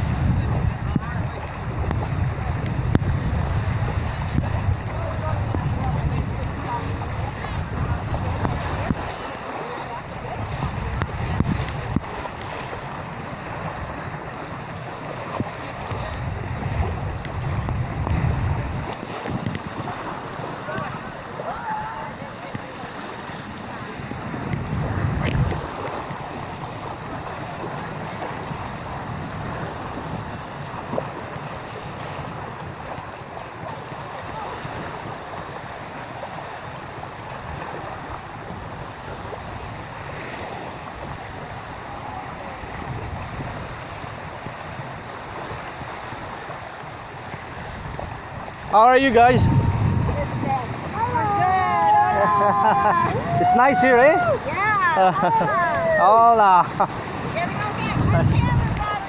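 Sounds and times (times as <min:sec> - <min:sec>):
shallow sea water washing: 0:00.0 - 0:59.0
wind buffeting microphone: 0:00.0 - 0:59.0.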